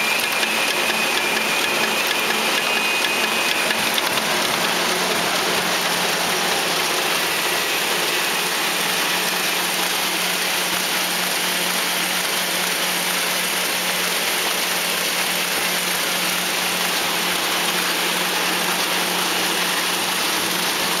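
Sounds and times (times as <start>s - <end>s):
printing press mechanical whirr: 0.0s - 21.0s.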